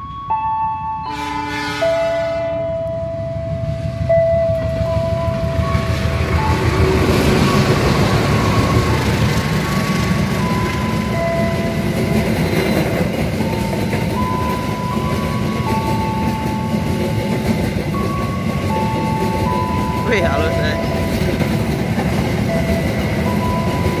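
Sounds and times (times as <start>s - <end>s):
locomotive engine running: 2.4s - 24.0s
train wheels clattering on rails: 3.8s - 24.0s.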